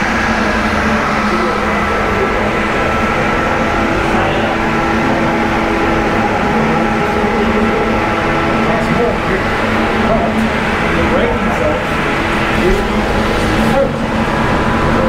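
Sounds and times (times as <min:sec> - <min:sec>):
loud machine hum: 0:00.0 - 0:15.0.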